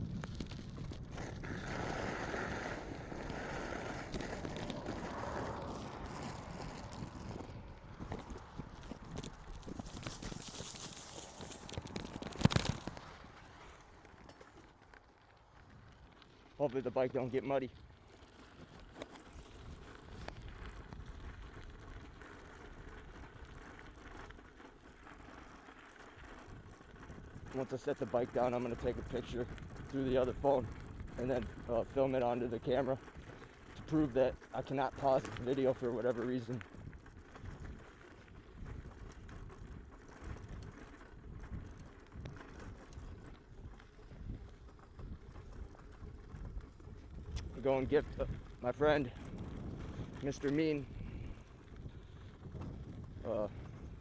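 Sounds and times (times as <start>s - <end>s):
bicycle rumbling over rough ground: 0.0s - 54.0s
footsteps on dirt trail: 0.0s - 54.0s.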